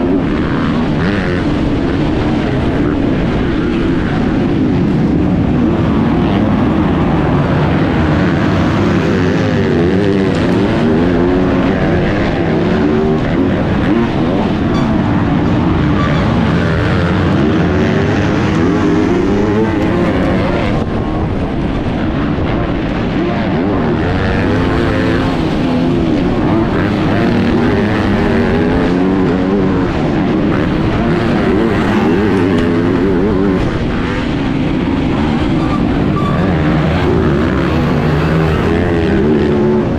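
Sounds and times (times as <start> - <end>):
motocross bike engine revving: 0.0 - 21.3, 22.1 - 39.9.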